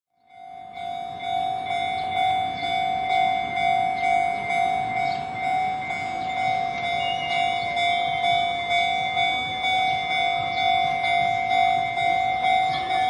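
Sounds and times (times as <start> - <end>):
railroad crossing alarm ringing: 0.2 - 13.0.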